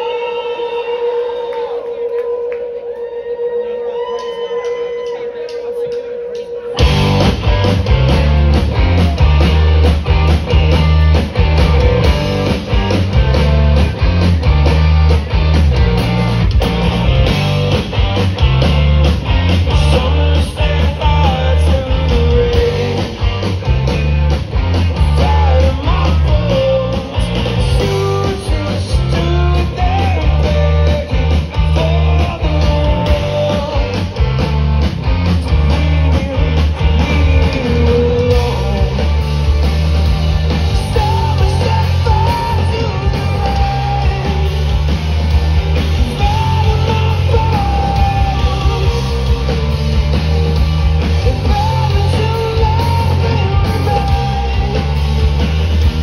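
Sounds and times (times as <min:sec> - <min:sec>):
live rock band playing: 0:04.5 - 0:56.0.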